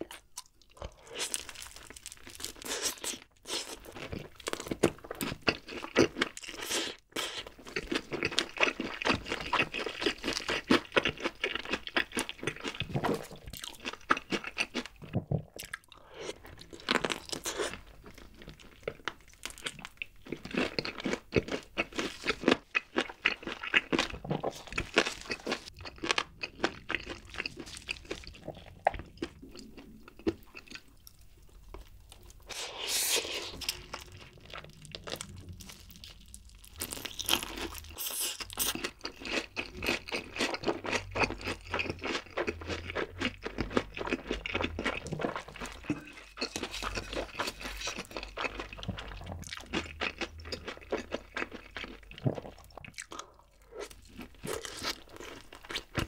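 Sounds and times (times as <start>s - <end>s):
crunching fried chicken: 0.0s - 56.0s.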